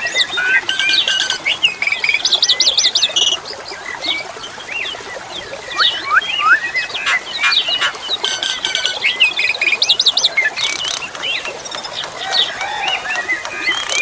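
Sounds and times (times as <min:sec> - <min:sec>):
starling singing: 0:00.0 - 0:03.4, 0:05.6 - 0:14.0
running water: 0:00.0 - 0:14.0.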